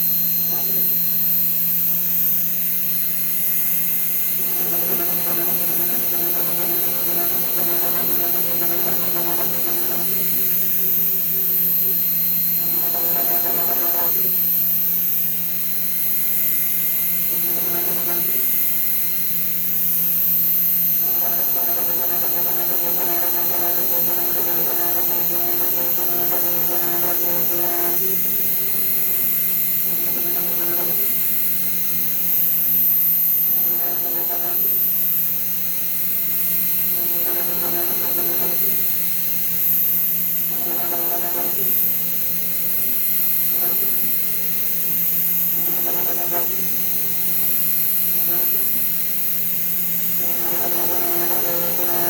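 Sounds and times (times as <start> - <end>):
router steady hum: 0.0 - 52.0.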